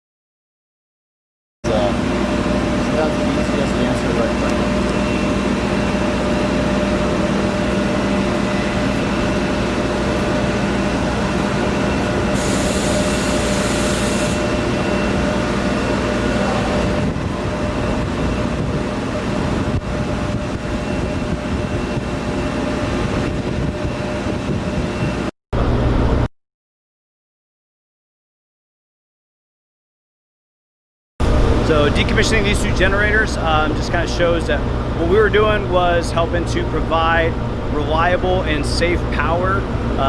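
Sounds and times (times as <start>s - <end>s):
generating machinery droning: 1.6s - 26.3s, 31.2s - 40.0s.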